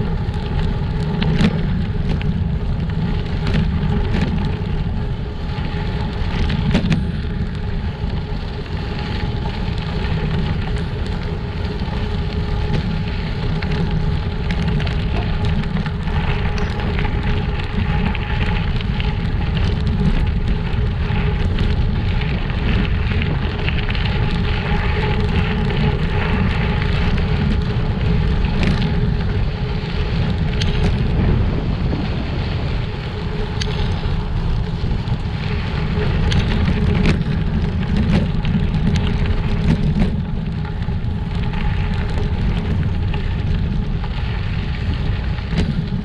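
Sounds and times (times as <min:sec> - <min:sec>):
bike rattling: 0:00.0 - 0:46.0
low rumble: 0:00.0 - 0:46.0.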